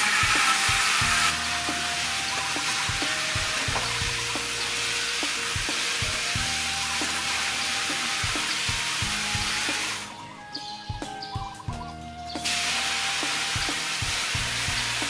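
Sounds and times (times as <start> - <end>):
water spray hissing into basin: 0.0 - 10.2, 12.4 - 15.0
background music with beat: 0.0 - 15.0.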